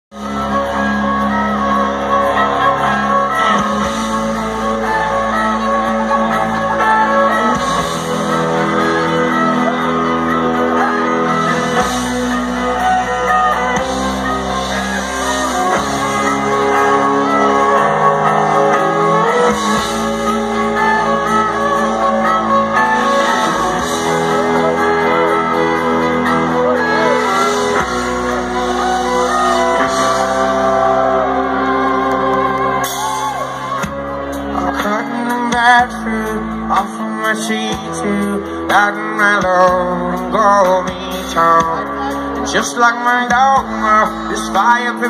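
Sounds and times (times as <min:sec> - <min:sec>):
live band playing: 0:00.1 - 0:45.0.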